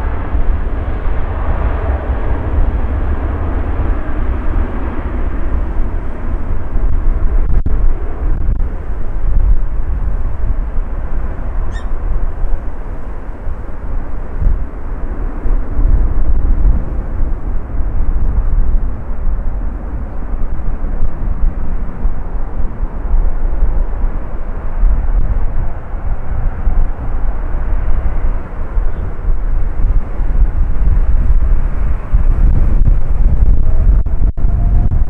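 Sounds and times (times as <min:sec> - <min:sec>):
jet engines rumbling: 0:00.0 - 0:35.0
wind buffeting the microphone: 0:00.0 - 0:35.0.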